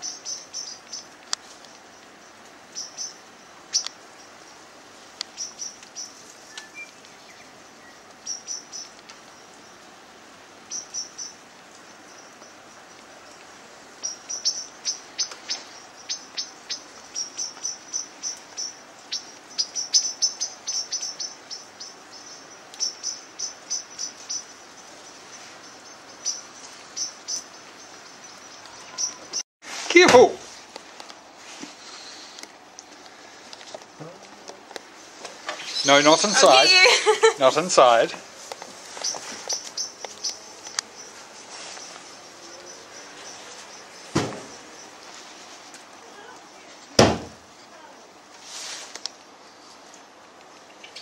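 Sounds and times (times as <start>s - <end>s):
small birds chirping: 0.0s - 29.4s, 30.0s - 48.3s, 49.0s - 51.0s
faint background hiss: 0.0s - 51.0s.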